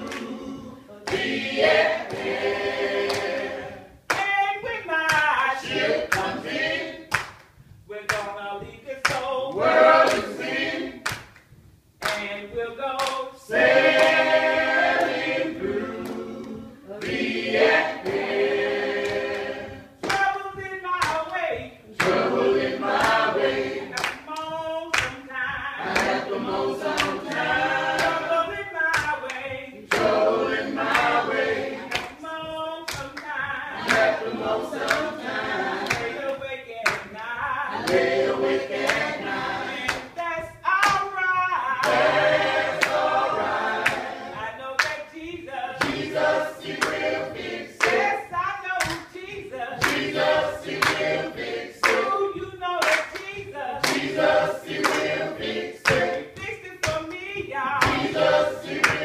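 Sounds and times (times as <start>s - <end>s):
group singing gospel song: 0.0s - 59.0s
hand-clapping on the beat: 0.0s - 59.0s.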